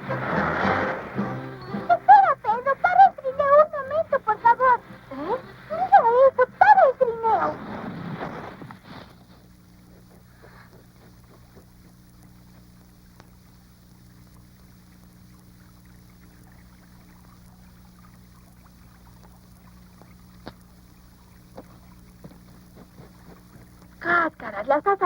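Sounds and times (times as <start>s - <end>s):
low hum and hiss: 0.0s - 25.0s.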